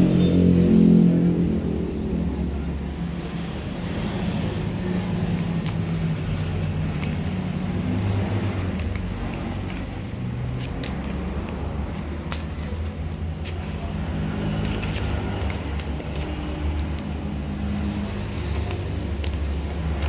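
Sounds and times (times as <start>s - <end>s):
road traffic: 0.0s - 20.0s
vehicle engine humming: 0.0s - 20.0s.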